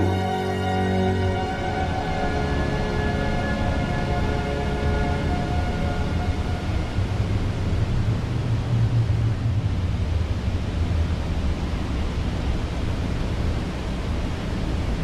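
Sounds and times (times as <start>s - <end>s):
wind: 1.3s - 15.0s.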